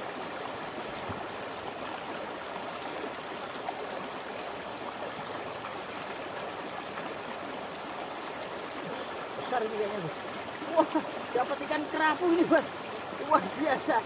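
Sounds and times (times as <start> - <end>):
river water rushing over rocks: 0.0 - 14.0.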